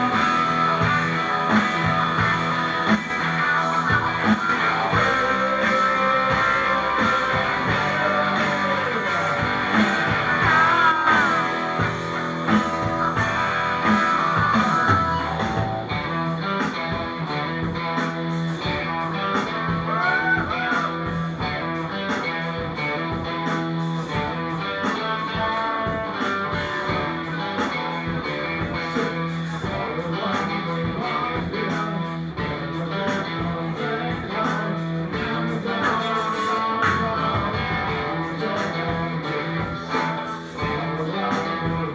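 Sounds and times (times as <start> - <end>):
bass: 0.0 - 41.9
electric guitar: 0.0 - 41.9
rock band playing: 0.0 - 41.9
steady drumbeat: 0.0 - 41.9.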